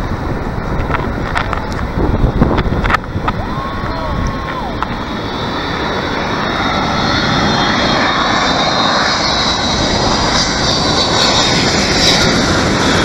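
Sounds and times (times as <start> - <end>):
high engine whine: 0.0 - 13.0
jet engines rushing: 0.0 - 13.0.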